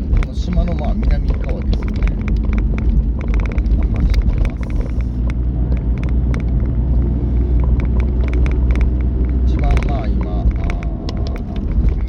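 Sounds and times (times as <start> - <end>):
car interior rumble: 0.0 - 12.0
sharp ticks and clicks: 0.0 - 12.0.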